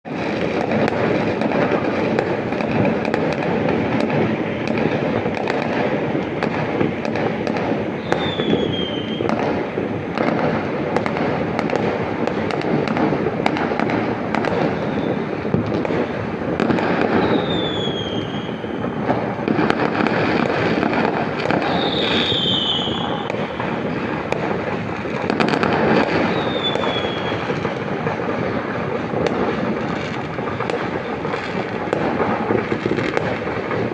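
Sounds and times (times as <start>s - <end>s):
fireworks crackling and banging: 0.0s - 33.9s
falling firework whistle: 0.1s - 33.9s.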